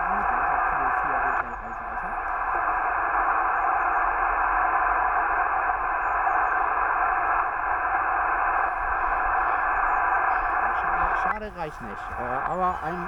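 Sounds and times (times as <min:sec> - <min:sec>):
radio receiver static hiss: 0:00.0 - 0:13.0.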